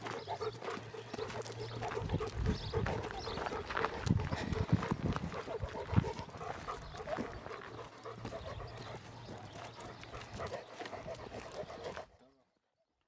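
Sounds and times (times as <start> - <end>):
footsteps on gravel: 0.0 - 12.0
dog panting: 0.0 - 12.3.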